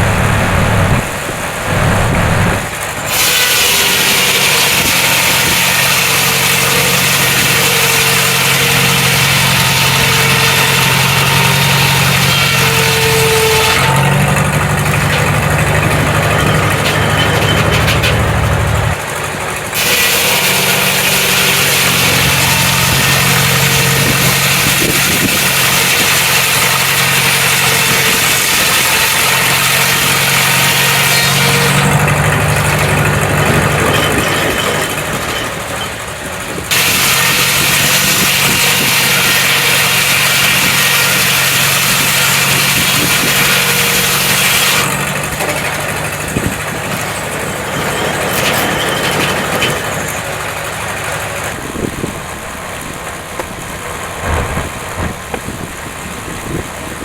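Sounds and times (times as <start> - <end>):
engine running steadily: 0.0 - 30.7, 31.3 - 39.6, 40.6 - 57.0.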